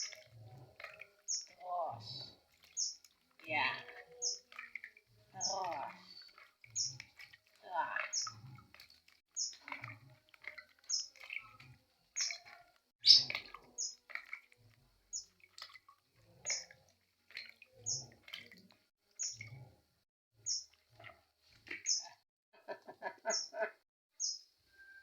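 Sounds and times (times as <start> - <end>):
songbird chirping: 0.0 - 14.4, 15.1 - 19.7, 20.4 - 20.8, 21.7 - 25.0.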